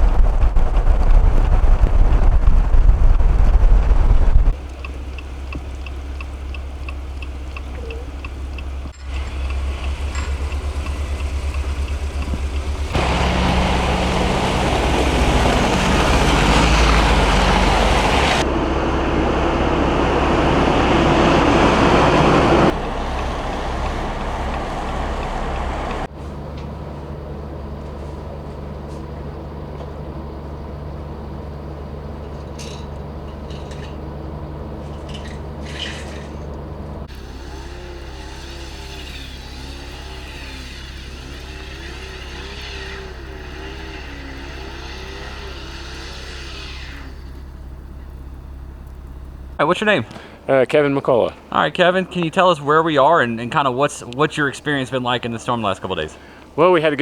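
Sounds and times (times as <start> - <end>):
tyre and road noise: 0.0 - 57.0
vehicle engines running: 0.0 - 57.0.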